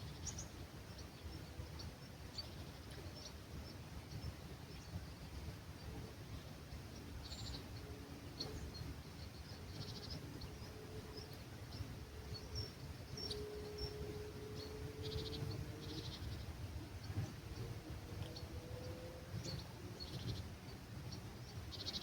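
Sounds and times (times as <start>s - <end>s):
low rumble of breeze: 0.0s - 22.0s
small birds chirping and trilling: 0.0s - 22.0s.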